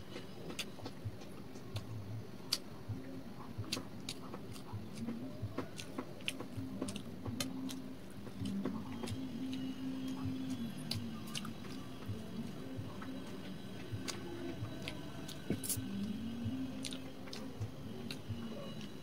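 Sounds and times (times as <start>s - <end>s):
person chewing soft food: 0.0s - 19.0s.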